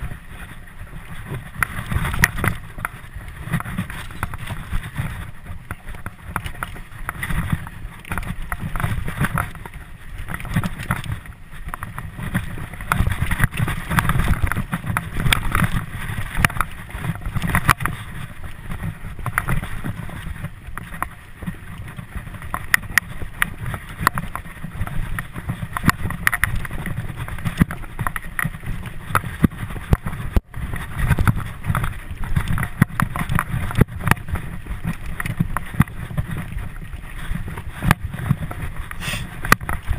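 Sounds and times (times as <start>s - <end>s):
bike rattling and clicking: 0.0s - 39.9s
bike tyres rumbling on dirt: 0.0s - 39.9s.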